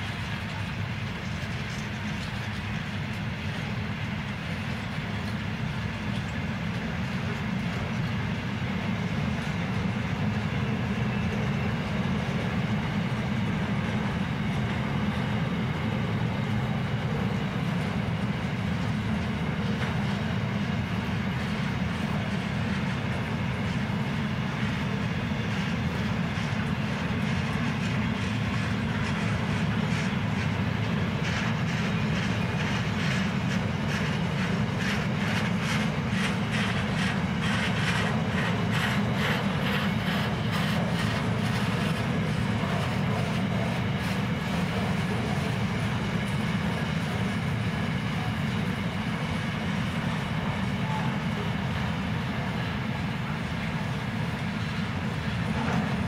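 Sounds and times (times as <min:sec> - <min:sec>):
train wheels rumbling on rail: 0:00.0 - 0:56.0
wheels clacking over rail joints: 0:00.0 - 0:56.0.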